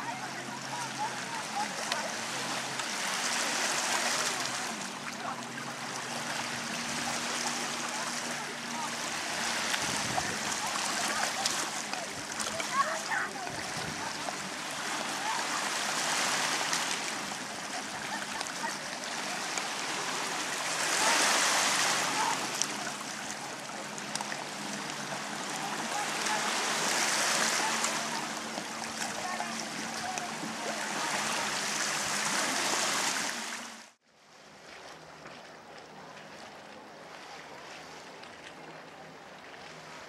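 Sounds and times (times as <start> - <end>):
faint voices: 0.0 - 33.1
small waves washing on shore: 0.0 - 40.0.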